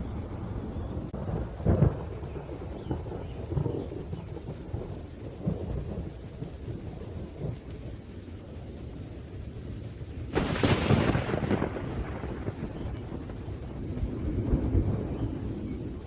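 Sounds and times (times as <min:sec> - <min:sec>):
crackling thunder peal: 0:00.0 - 0:16.0
low thunder rumble: 0:00.0 - 0:16.0
steady rain: 0:00.0 - 0:16.0.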